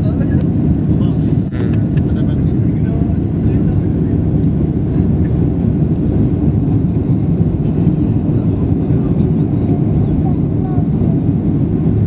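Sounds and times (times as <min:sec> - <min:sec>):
airliner engine rumble: 0:00.0 - 0:12.0.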